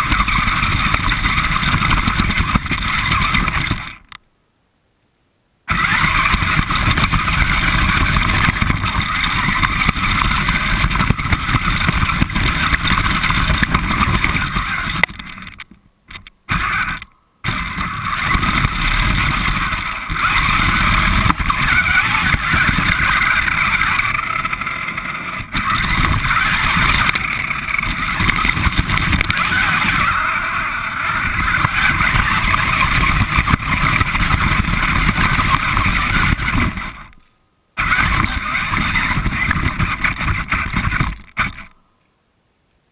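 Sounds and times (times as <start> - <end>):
radio-controlled car driving: 0.0 - 4.2, 5.7 - 41.8.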